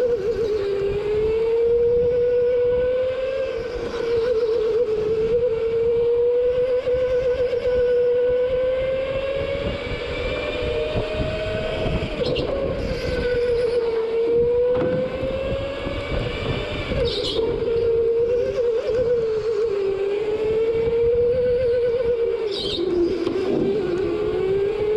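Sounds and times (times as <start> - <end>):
go-kart engine running hard: 0.0 - 24.9.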